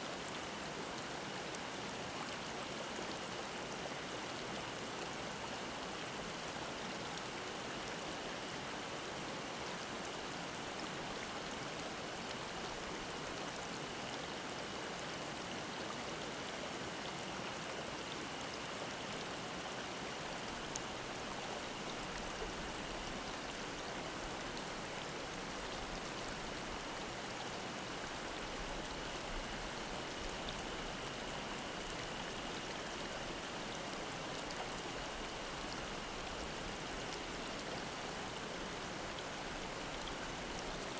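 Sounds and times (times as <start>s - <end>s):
mountain stream babbling: 0.1s - 40.9s.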